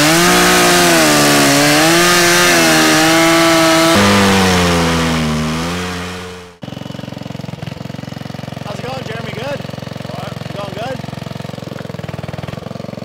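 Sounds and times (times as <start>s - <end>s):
chainsaw cutting through log: 0.0s - 13.0s.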